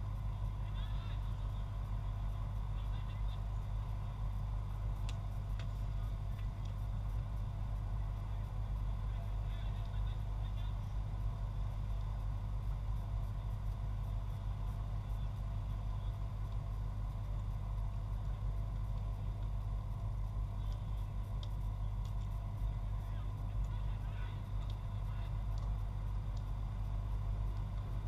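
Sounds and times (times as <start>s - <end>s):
faint constant hum: 0.0s - 28.0s
steady low rumble: 0.0s - 28.0s.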